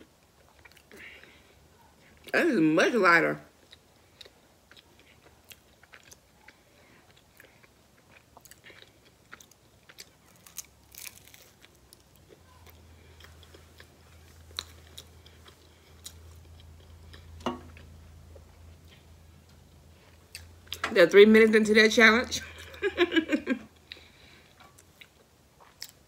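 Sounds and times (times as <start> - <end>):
low steady hum: 0.0 - 26.0
person chewing: 0.2 - 2.3, 3.5 - 20.9, 23.7 - 26.0.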